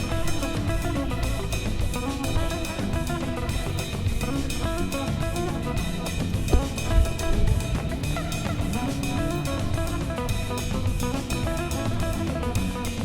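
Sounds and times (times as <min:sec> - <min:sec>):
drum kit beat: 0:00.0 - 0:13.0
guitar music: 0:00.0 - 0:13.0.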